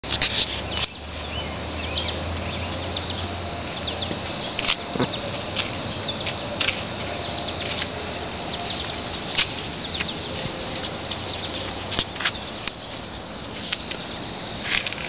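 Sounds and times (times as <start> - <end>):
background hiss: 0.3 - 15.0
small birds chirping: 0.3 - 15.0.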